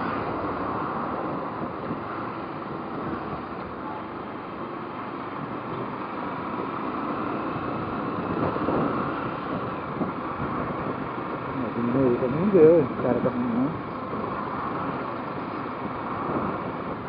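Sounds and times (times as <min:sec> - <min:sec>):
motorcycle running: 0:00.0 - 0:17.0
wind rushing over microphone: 0:00.0 - 0:17.0.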